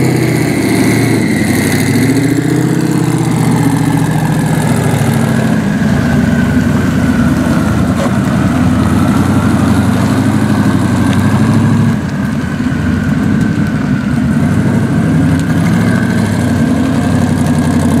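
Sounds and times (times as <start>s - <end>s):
car exhaust at low revs: 0.0s - 18.0s.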